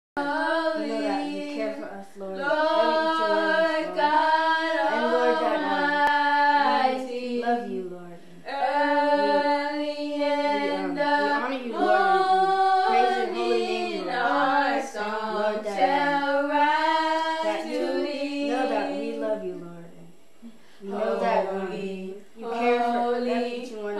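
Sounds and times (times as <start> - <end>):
woman singing unaccompanied: 0.2 - 20.1, 20.8 - 23.9.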